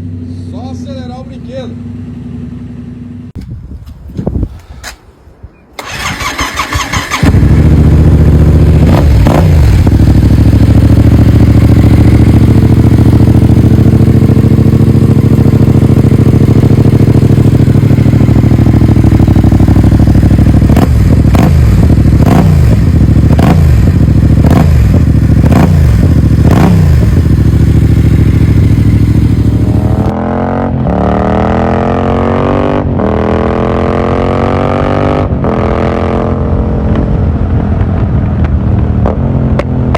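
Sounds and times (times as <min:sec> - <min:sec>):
motorcycle engine revving: 0:05.8 - 0:39.9.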